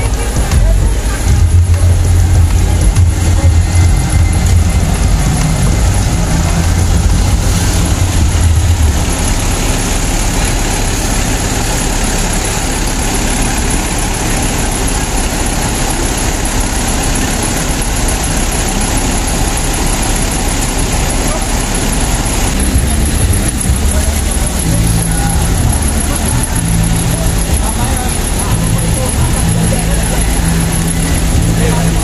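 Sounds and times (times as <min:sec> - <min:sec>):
bus engine running: 0:00.0 - 0:32.0
buses idling: 0:00.0 - 0:32.0.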